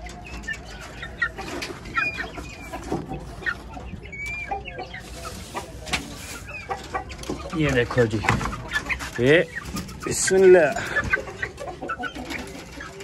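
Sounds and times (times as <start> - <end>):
chirping calls: 0.0 - 13.0
hens clucking: 0.0 - 13.0.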